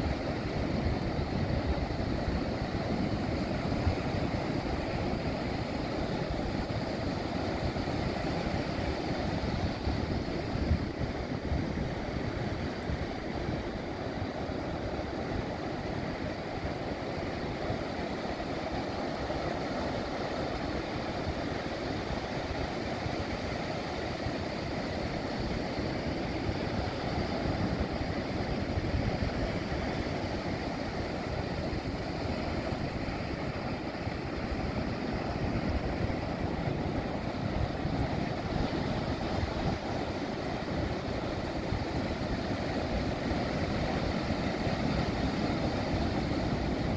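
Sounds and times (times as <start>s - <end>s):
ocean surf breaking on beach: 0.0s - 46.9s.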